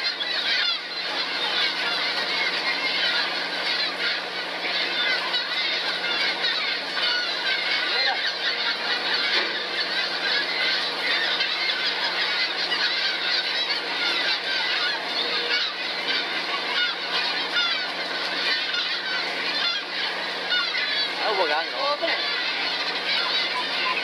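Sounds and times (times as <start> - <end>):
low hum of boat machinery: 0.0 - 24.0
seabirds squawking: 0.0 - 24.0.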